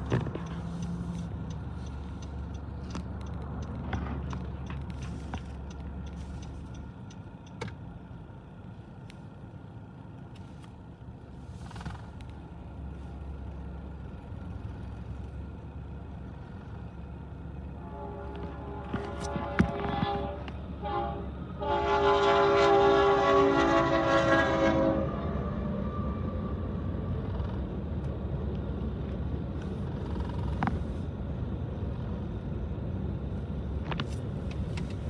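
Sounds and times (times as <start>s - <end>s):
engines idling low rumble: 0.0s - 35.0s.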